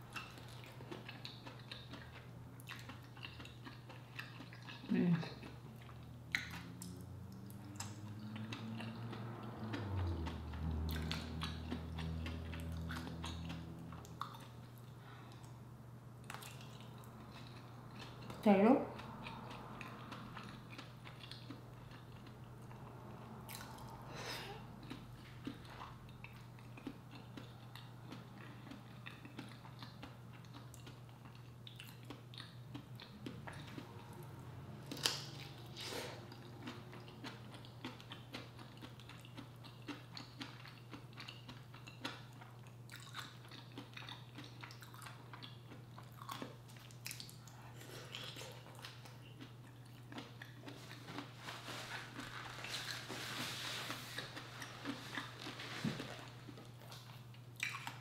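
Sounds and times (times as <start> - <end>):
chewing and smacking: 0.0 - 15.6, 16.2 - 58.0.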